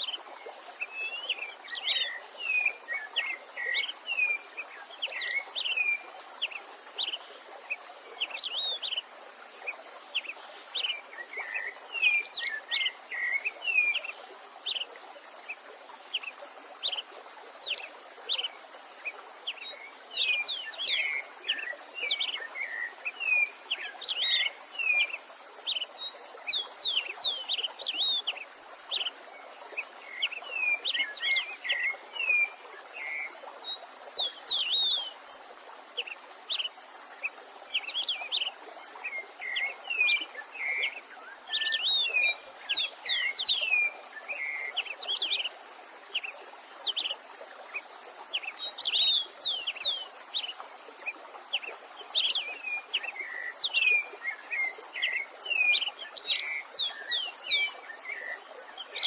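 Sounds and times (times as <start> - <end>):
running stream water: 0.0 - 59.0.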